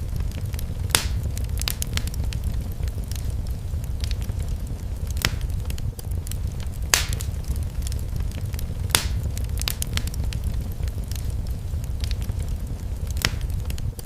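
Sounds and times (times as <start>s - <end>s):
low rumble of flames: 0.0s - 14.0s
wood fire popping and snapping: 0.0s - 14.0s.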